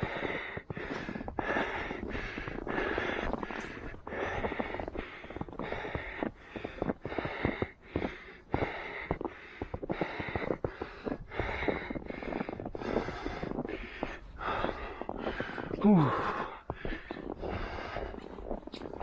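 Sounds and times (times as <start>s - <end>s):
footsteps in snow: 0.0s - 19.0s
runner breathing rhythmically: 0.0s - 19.0s.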